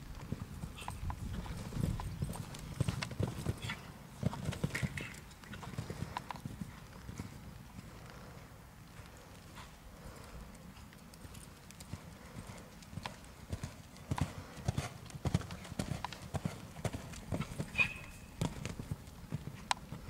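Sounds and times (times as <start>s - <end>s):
hooves thumping on sand: 0.1s - 20.0s.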